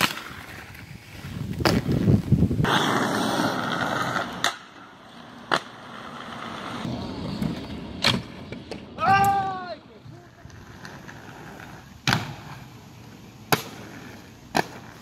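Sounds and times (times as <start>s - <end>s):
skates clacking on ground: 0.0s - 12.7s, 13.4s - 15.0s
inline skates rolling on concrete: 0.0s - 15.0s.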